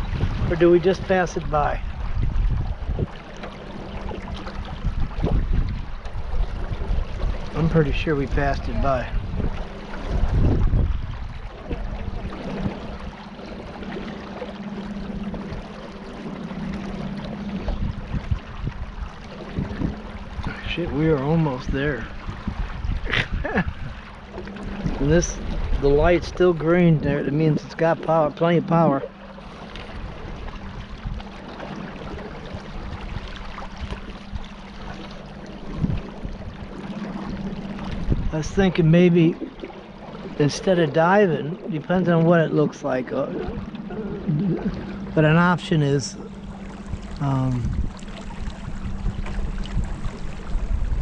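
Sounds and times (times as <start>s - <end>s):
boat motor humming: 0.0s - 51.0s
water sloshing and splashing: 0.0s - 51.0s.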